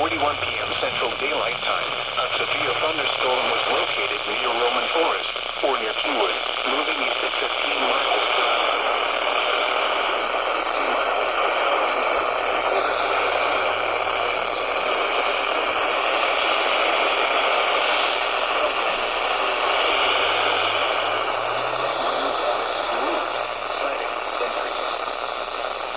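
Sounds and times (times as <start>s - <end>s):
radio static hiss: 0.0s - 25.9s.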